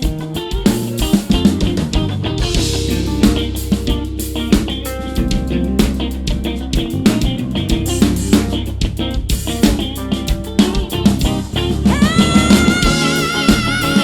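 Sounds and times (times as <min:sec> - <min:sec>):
bass guitar: 0:00.0 - 0:14.0
drum kit: 0:00.0 - 0:14.0
electric guitar lines: 0:00.0 - 0:14.0.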